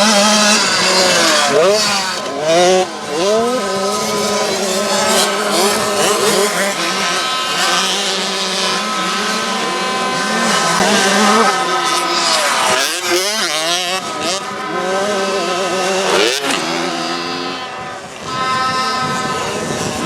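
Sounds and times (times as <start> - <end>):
motocross bike engines racing: 0.0 - 20.0.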